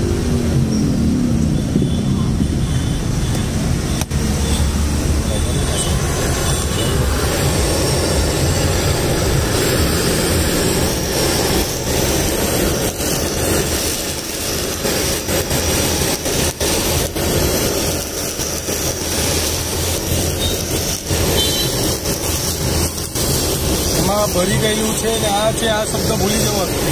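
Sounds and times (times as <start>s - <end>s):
blowtorch flame roaring: 0.0s - 26.9s.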